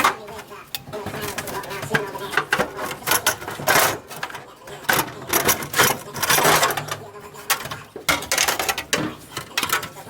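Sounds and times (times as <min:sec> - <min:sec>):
clattering of hand work on metal: 0:00.0 - 0:10.0.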